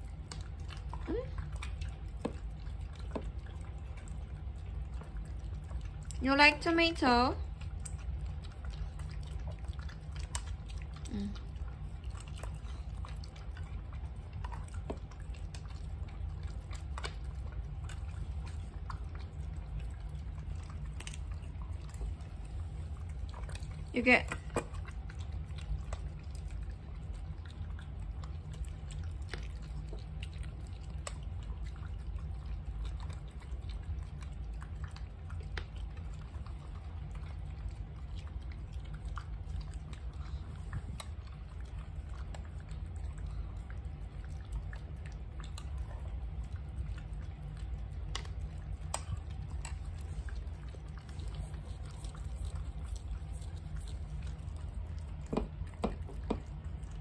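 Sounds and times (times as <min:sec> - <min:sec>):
dogs chewing food: 0:00.0 - 0:57.0
steady low hum: 0:00.0 - 0:57.0.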